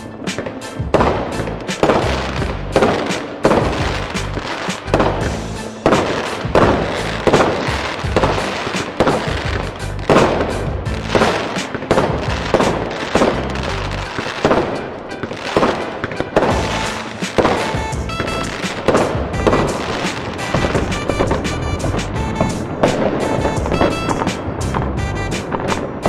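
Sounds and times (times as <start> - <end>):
fireworks bangs: 0.0 - 26.0
music: 0.0 - 26.0.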